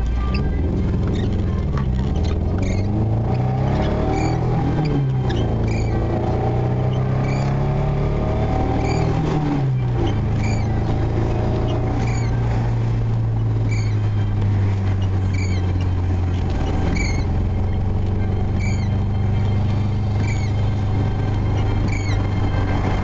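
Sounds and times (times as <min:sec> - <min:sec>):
car engine and road noise: 0:00.0 - 0:23.0
short high squeak: 0:00.2 - 0:08.0, 0:08.6 - 0:09.4, 0:10.0 - 0:12.8, 0:13.4 - 0:23.0.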